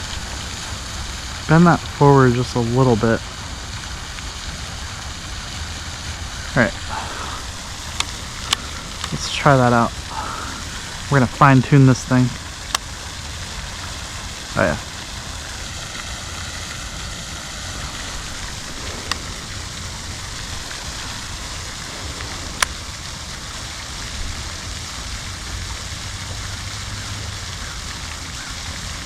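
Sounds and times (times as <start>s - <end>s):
outdoor background hiss: 0.0s - 29.0s.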